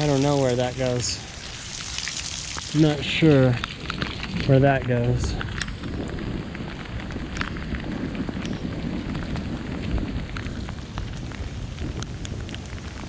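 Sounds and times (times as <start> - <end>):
raindrops ticking: 0.0 - 13.0
storm rain: 0.0 - 13.0.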